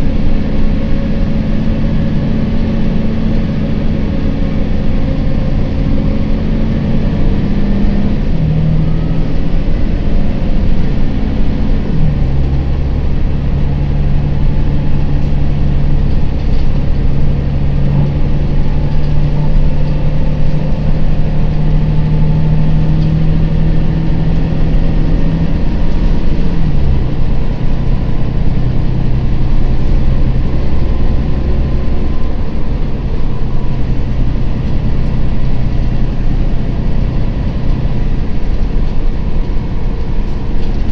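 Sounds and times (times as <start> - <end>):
bus diesel engine running: 0.0 - 40.9
road rumble: 0.0 - 40.9.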